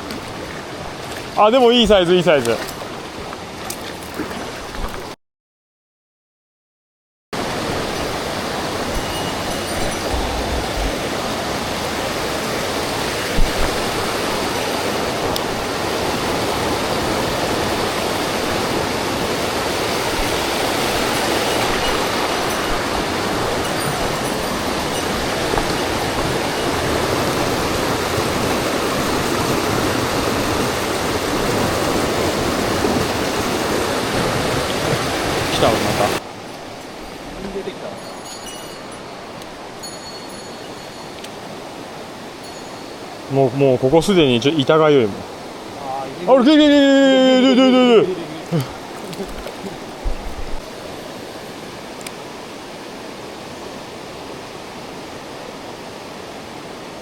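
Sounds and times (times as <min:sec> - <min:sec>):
stream water rushing: 0:00.0 - 0:05.2, 0:07.4 - 0:57.0.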